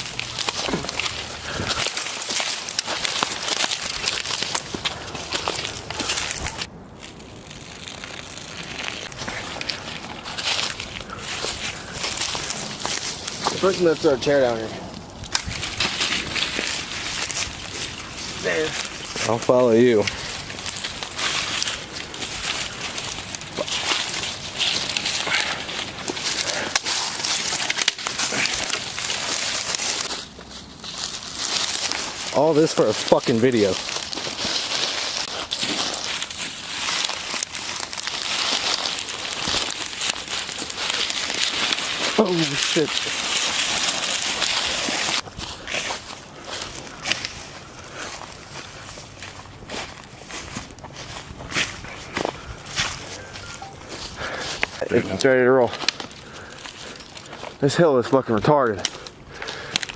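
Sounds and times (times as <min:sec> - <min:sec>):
close rustling and crackling: 0:00.0 - 0:59.9
footsteps crunching through undergrowth: 0:00.0 - 0:59.9.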